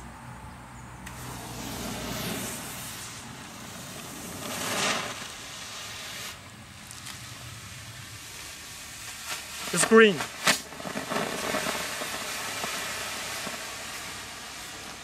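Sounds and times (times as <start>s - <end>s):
smoke firework hissing: 1.0s - 15.0s.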